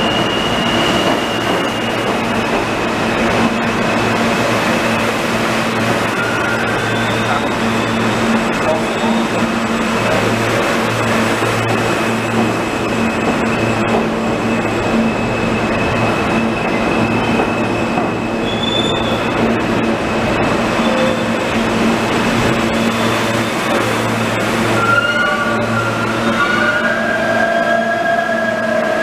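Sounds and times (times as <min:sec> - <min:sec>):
high wheel squeal: 0:00.0 - 0:19.4, 0:22.7 - 0:29.0
train wheels rumbling on rail: 0:00.0 - 0:29.0.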